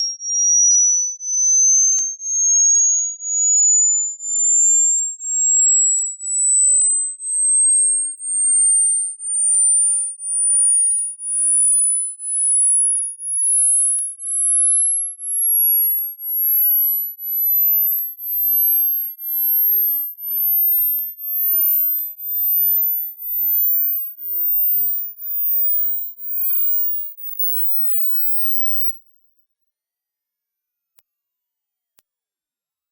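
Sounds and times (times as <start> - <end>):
rising electronic test tone: 0.0 - 29.3.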